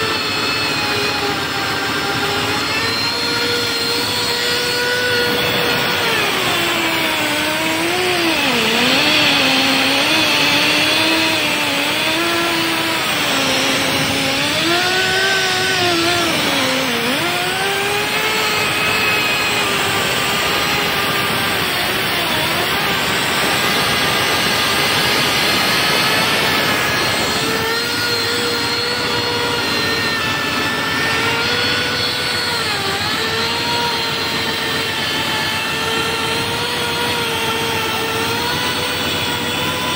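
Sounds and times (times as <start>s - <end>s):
grinding machine motor whine: 0.0s - 39.9s.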